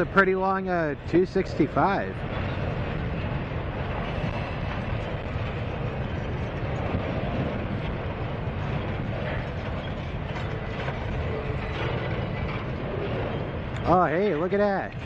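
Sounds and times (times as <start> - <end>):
steel wheels rumbling on rail: 0.0 - 15.0
wheels clicking over rail joints: 0.0 - 15.0.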